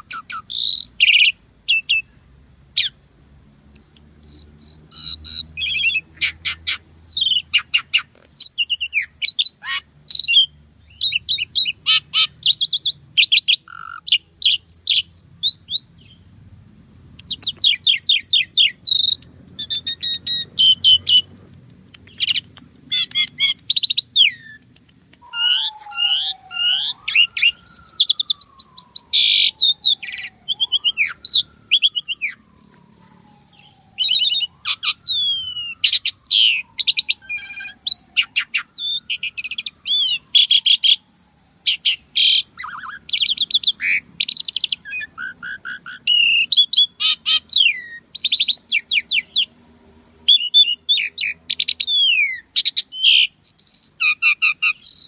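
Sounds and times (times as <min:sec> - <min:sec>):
slow falling bird whistle: 0:00.0 - 0:02.1, 0:03.8 - 0:16.2, 0:17.3 - 0:21.3, 0:25.2 - 0:55.0
starling chattering song: 0:00.0 - 0:02.2, 0:03.8 - 0:16.3, 0:17.1 - 0:55.0.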